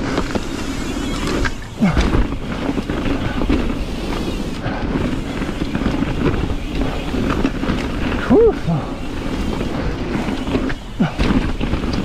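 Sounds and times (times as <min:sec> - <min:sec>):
bike clicks and rattles: 0:00.0 - 0:12.0
bike tyre noise on dirt: 0:00.0 - 0:12.0.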